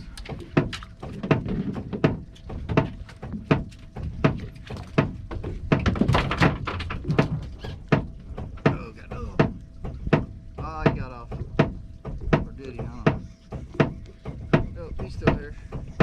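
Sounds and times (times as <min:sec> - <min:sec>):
knocking on boat hull: 0:00.3 - 0:16.0.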